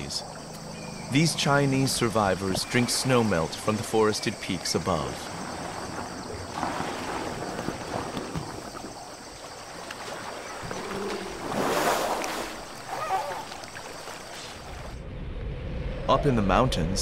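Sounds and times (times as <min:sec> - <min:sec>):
elephants wading through water: 0:00.0 - 0:15.0
water sloshing and splashing: 0:00.0 - 0:15.0.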